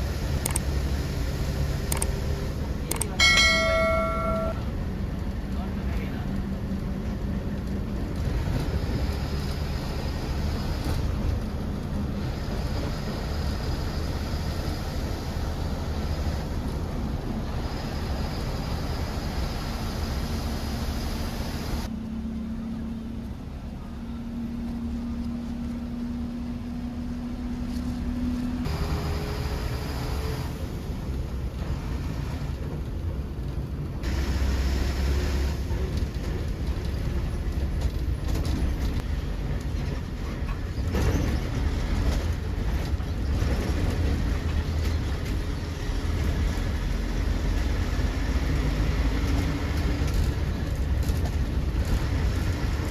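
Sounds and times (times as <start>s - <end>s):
bus engine running: 0.0s - 52.9s
road noise: 0.0s - 52.9s.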